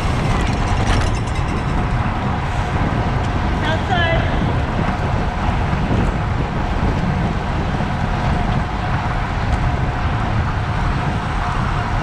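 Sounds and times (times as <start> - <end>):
bicycle tyres rolling on asphalt: 0.0 - 12.0
wind buffeting microphone: 0.0 - 12.0.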